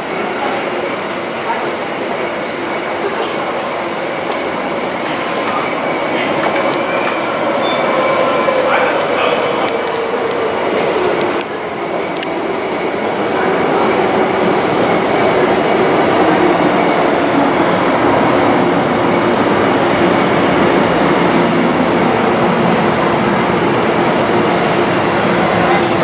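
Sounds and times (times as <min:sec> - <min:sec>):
steady train tones: 0:00.0 - 0:26.0
underground train rumbling past: 0:00.0 - 0:26.0.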